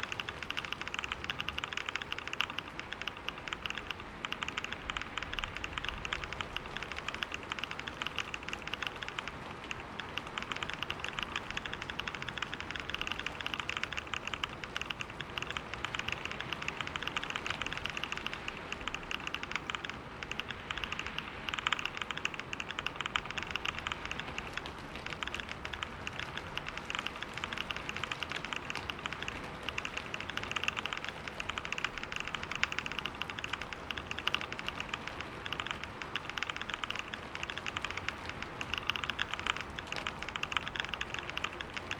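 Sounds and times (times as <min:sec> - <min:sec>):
rapid keyboard typing: 0:00.0 - 0:41.9.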